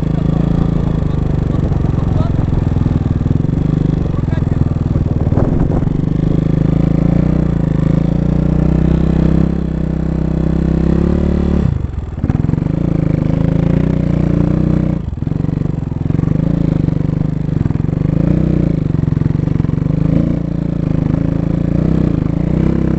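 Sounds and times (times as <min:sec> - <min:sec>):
dirt bike engine revving: 0:00.0 - 0:22.9.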